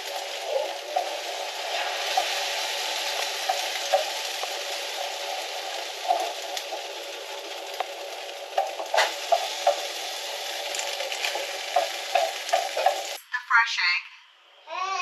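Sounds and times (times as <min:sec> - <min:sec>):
egg sizzling in a frying pan: 0:00.0 - 0:13.2.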